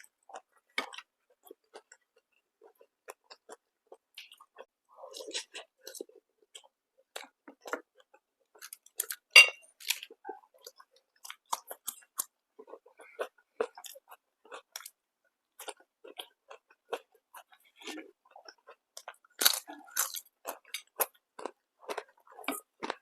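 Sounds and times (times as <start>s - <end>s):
person chewing food: 0.0s - 23.0s.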